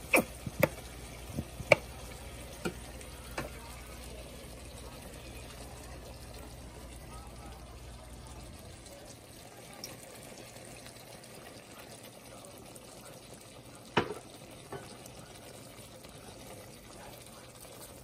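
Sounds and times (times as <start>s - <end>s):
shrimp sizzling in frying pan: 0.0s - 12.3s, 13.2s - 18.0s.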